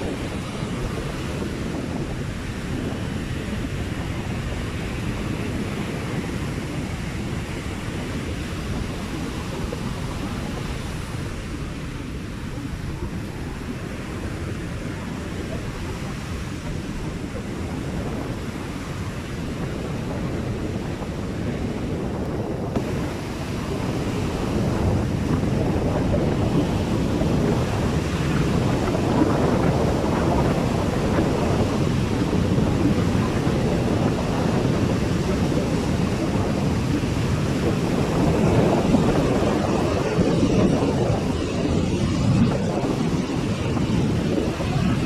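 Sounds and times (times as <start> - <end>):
surf breaking on a beach: 0.0 - 45.0
wind buffeting microphone: 0.0 - 45.0.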